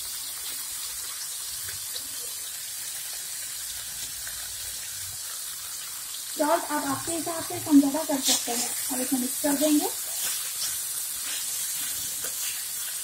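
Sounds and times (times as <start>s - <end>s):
liver sizzling in oil: 0.0s - 13.0s.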